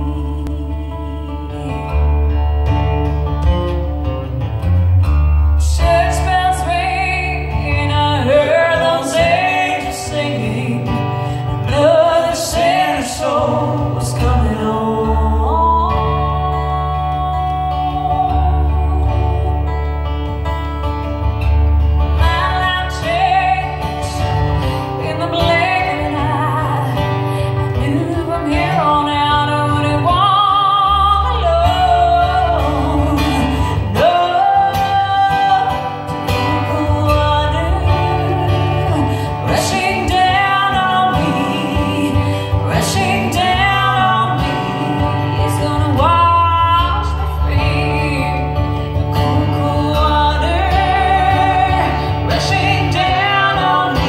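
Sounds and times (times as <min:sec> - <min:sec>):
woman singing with vibrato: 0:00.0 - 0:02.5, 0:05.6 - 0:20.6, 0:22.1 - 0:54.0
acoustic guitar: 0:00.0 - 0:54.0.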